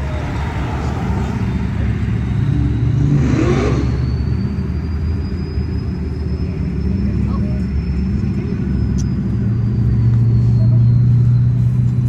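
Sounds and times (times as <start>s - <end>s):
car engines rumbling past: 0.0s - 12.0s.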